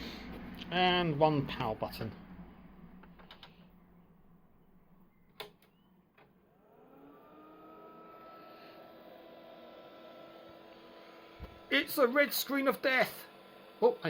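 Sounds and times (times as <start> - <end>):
computer fan and drives whirring: 0.0 - 14.0.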